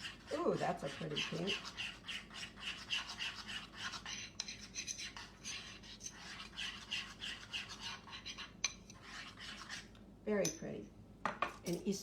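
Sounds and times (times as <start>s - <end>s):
utensil scraping around a bowl: 0.0s - 10.0s.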